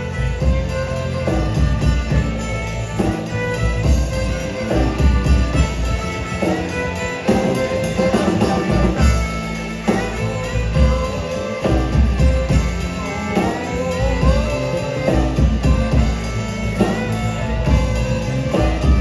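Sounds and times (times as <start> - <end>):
drum kit: 0.0 - 19.0
guitars: 0.0 - 19.0.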